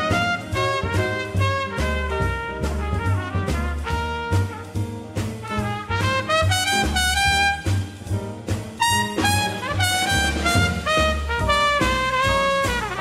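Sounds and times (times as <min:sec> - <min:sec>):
drums in swing rhythm: 0:00.0 - 0:13.0
trumpet jazz solo: 0:00.0 - 0:13.0
upright bass: 0:00.0 - 0:13.0.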